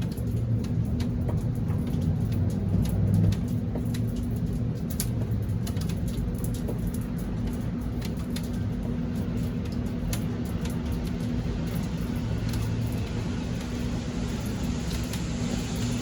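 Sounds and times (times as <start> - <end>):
low steady hum: 0.0 - 16.0
raindrops tapping close by: 0.0 - 16.0
steady rain shower: 0.0 - 16.0.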